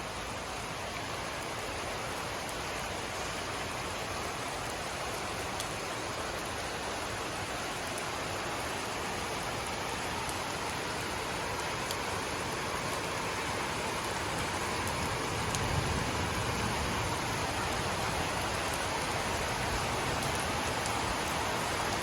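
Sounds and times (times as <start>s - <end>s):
steady rainfall hiss: 0.0s - 22.0s.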